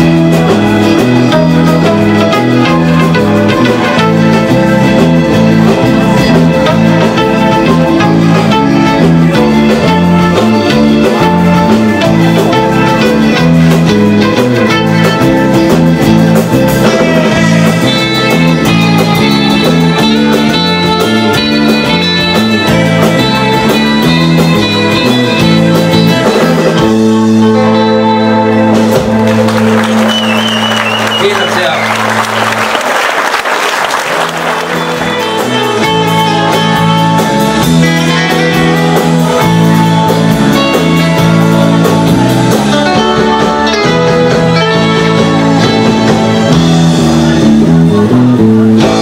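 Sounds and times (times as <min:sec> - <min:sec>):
twangy electric lead guitar: 0:00.0 - 0:32.7, 0:34.2 - 0:49.0
rhythm guitar and bass: 0:00.0 - 0:49.0.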